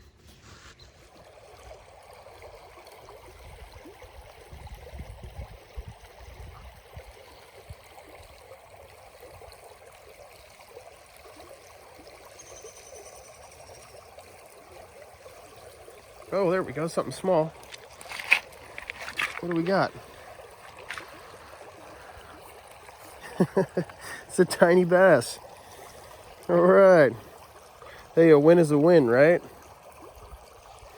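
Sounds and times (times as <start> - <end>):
creek water over rocks: 0.0 - 30.9.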